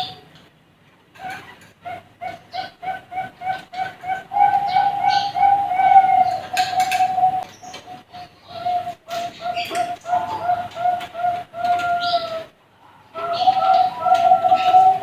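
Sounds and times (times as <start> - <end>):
doves cooing: 0.0 - 0.3, 1.2 - 15.0.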